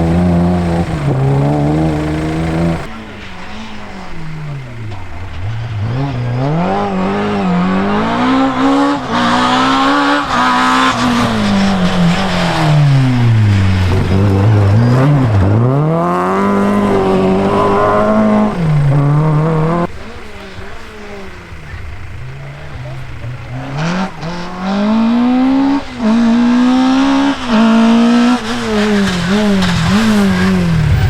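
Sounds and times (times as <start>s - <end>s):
rally car engine at full throttle: 0.0s - 31.0s.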